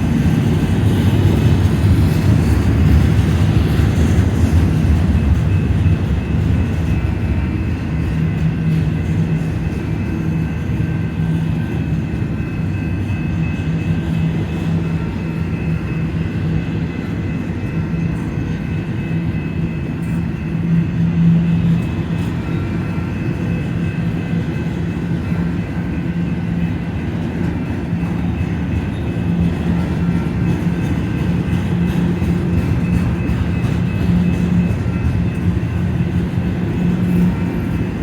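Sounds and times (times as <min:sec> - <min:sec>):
diesel locomotive drone: 0:00.0 - 0:38.0.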